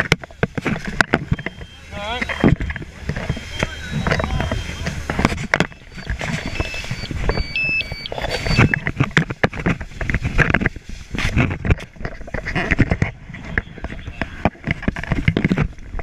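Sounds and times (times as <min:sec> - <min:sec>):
gear clattering and rustling: 0:00.0 - 0:16.0.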